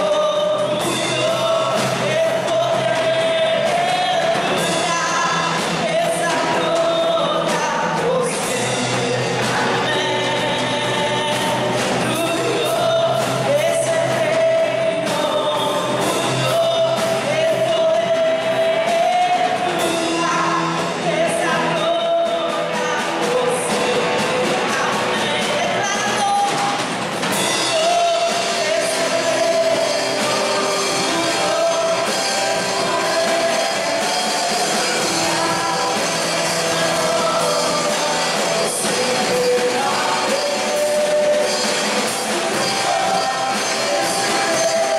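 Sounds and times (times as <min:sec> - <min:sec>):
congas: 0:00.0 - 0:44.9
drum kit: 0:00.0 - 0:44.9
electric guitar: 0:00.0 - 0:44.9
woman singing: 0:00.0 - 0:44.9.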